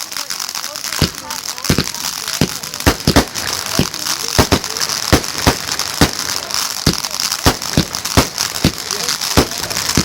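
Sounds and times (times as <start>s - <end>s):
firework bangs: 0.0s - 10.0s
firework crackling hiss: 0.0s - 10.0s.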